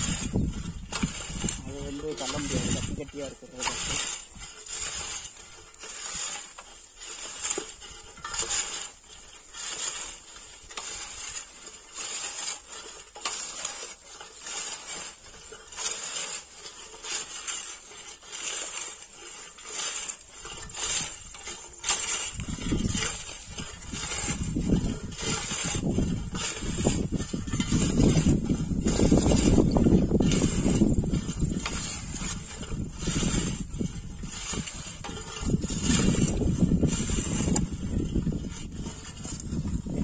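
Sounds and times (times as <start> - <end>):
weeder blade scraping through soil: 0.0 - 40.0.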